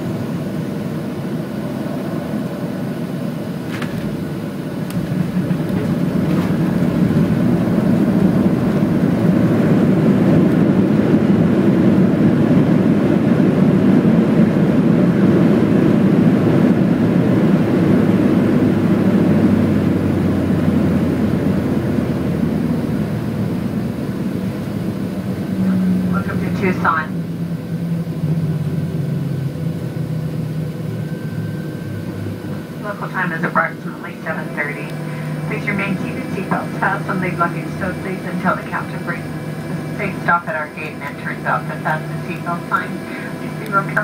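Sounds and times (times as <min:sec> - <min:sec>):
jet engines roaring in cabin: 0:00.0 - 0:44.0.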